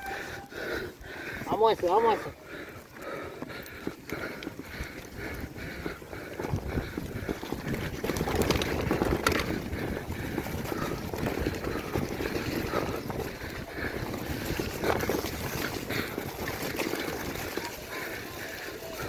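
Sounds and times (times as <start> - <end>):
bike rumbling and rattling: 0.0 - 19.0
wind buffeting microphone: 0.0 - 19.0.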